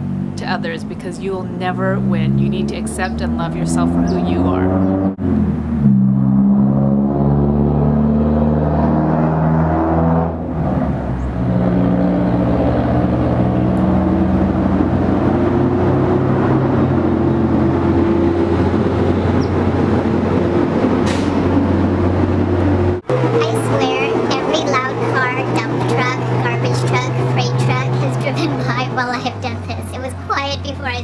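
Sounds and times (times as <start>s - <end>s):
low synth chords: 0.0s - 29.5s.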